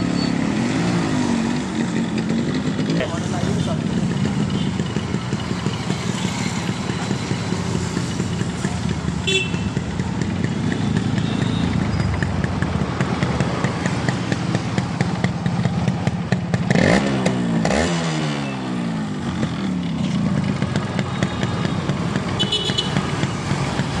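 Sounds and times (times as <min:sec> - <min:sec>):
two-stroke engine idling: 0:01.5 - 0:17.0, 0:19.0 - 0:24.0.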